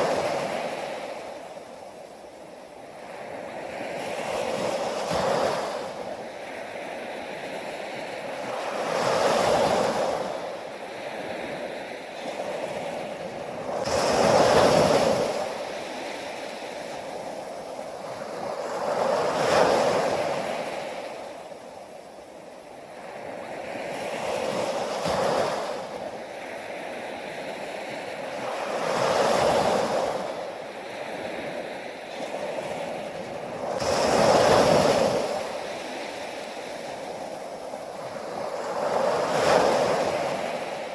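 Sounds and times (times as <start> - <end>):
ocean waves washing ashore: 0.0 - 40.9.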